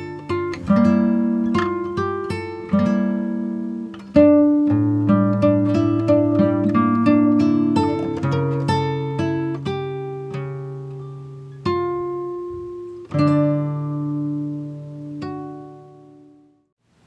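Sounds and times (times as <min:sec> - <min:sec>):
acoustic guitar picking: 0:00.0 - 0:16.7.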